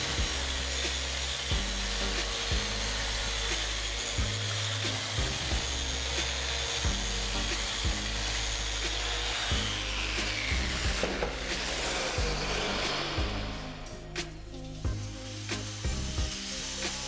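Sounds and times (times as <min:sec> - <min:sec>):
orbital sander on wood: 0:00.0 - 0:14.1, 0:14.8 - 0:17.0
background music with beat: 0:00.0 - 0:17.0.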